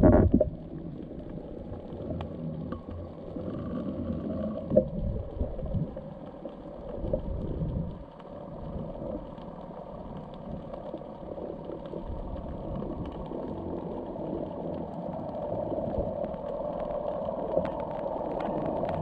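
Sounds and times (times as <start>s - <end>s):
faint clicks: 0.0s - 19.0s
underwater rumbling: 0.0s - 19.0s.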